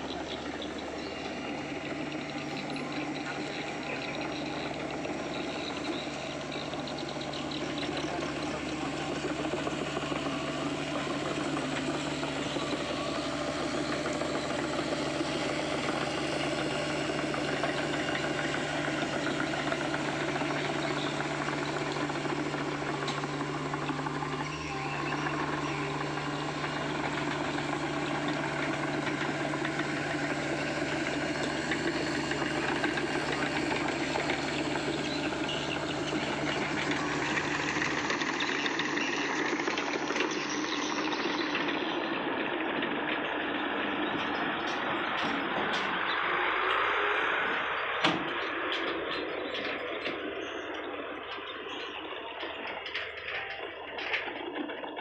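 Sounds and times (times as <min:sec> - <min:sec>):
heavy machine diesel engine running: 0:00.0 - 0:55.0.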